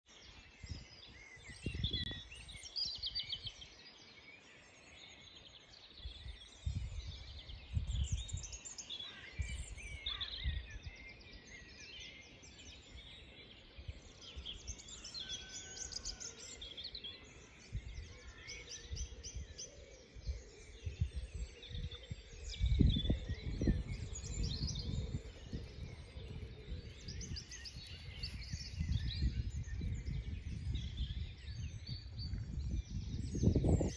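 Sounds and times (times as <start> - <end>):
songbirds singing and chirping: 0.0 - 33.9
wind rumbling on microphone: 0.2 - 4.0, 5.2 - 33.9.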